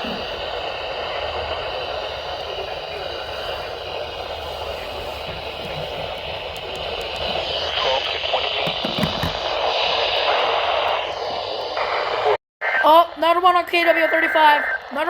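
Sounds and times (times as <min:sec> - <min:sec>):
radio static hiss: 0:00.0 - 0:13.1, 0:13.7 - 0:15.0.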